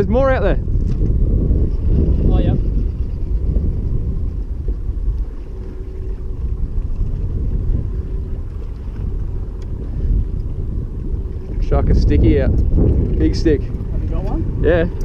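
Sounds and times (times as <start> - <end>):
boat motor rumbling: 0.0 - 15.0
wind buffeting microphone: 0.0 - 15.0.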